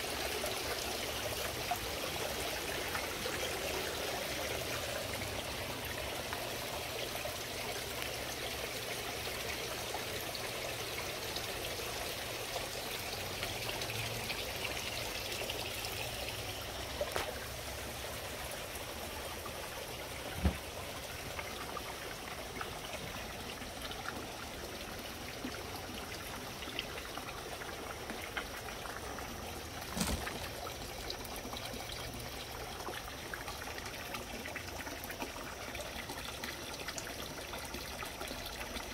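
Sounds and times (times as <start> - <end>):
water spilling into pond: 0.0 - 38.9
water trickling from fountains: 0.0 - 38.9.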